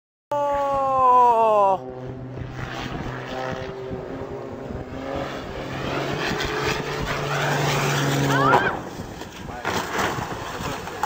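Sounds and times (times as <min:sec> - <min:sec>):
aircraft engine running: 0:00.5 - 0:11.0.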